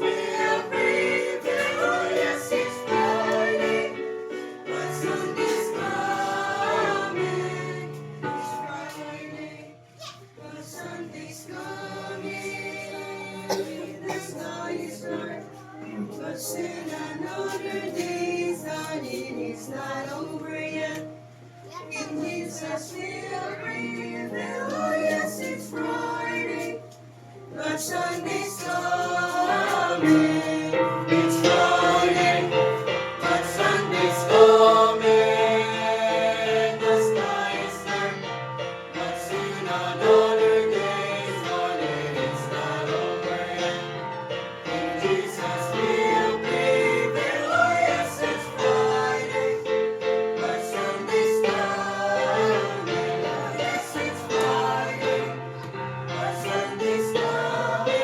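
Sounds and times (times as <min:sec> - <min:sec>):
choir singing gospel: 0:00.0 - 0:58.0
recorded music accompaniment: 0:00.0 - 0:58.0.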